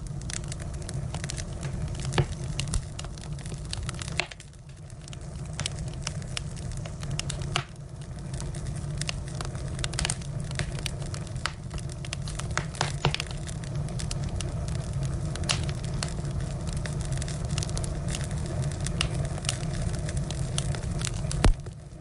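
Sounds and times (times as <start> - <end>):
fire low rumble: 0.0 - 22.0
firewood crackling and popping: 0.0 - 22.0.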